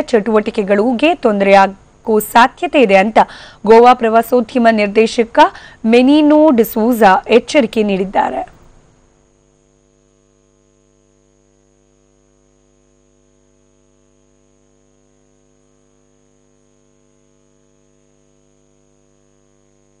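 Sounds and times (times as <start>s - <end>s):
electrical mains hum and buzz: 0.0s - 20.0s.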